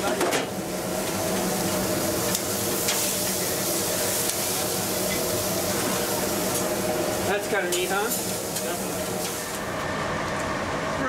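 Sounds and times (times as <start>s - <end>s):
meat sizzling on a grill: 0.3s - 9.8s.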